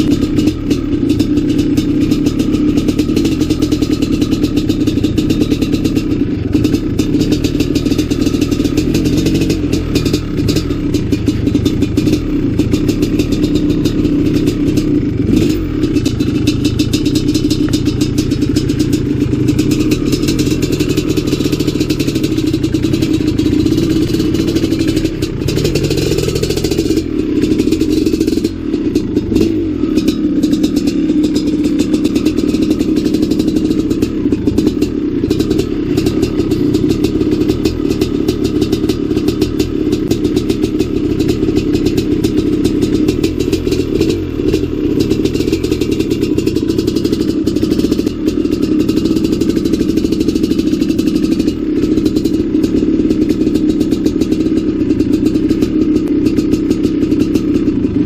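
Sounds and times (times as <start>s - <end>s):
bike rattling and knocking: 0.0s - 58.0s
dirt bike engine running: 0.0s - 58.0s.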